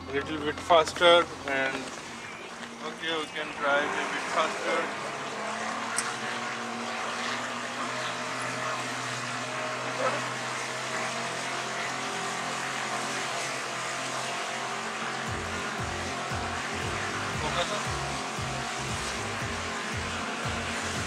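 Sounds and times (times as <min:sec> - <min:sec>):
outboard motor running: 0:00.0 - 0:21.0
water rushing: 0:00.7 - 0:21.0.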